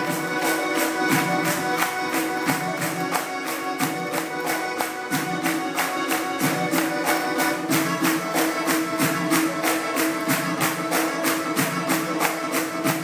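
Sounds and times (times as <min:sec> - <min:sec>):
fast folk dance music: 0:00.0 - 0:13.0.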